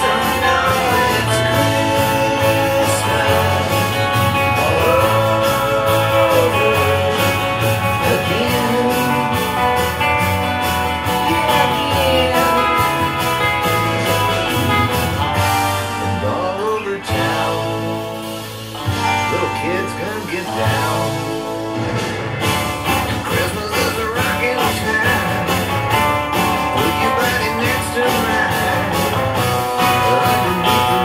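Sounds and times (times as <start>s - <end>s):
man singing: 0.0s - 14.9s, 15.7s - 21.7s, 22.9s - 31.0s
bass: 0.0s - 31.0s
drums: 0.0s - 31.0s
electric guitar strummed: 0.0s - 31.0s.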